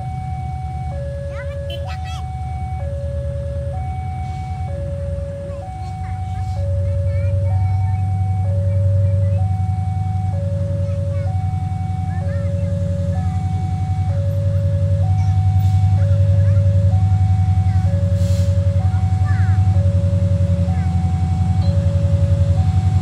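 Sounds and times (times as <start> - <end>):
deep engine-like rumble: 0.0 - 23.0
level-crossing two-tone alarm: 0.0 - 23.0.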